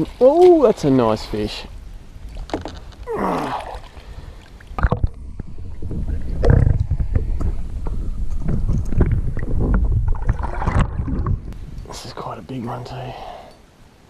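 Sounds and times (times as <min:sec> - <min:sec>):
muffled underwater sloshing: 0:00.0 - 0:11.6.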